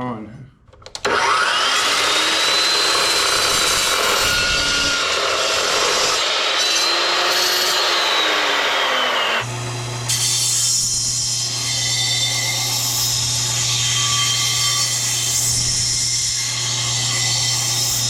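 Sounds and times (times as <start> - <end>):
chop saw cutting metal: 1.0 - 18.0.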